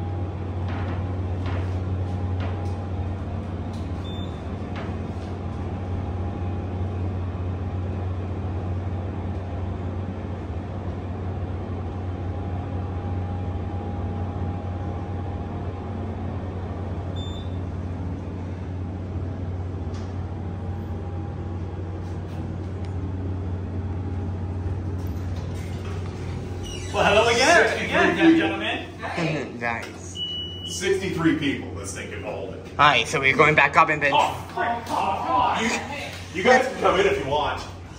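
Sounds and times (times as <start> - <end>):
elevator low hum: 0.0 - 37.9.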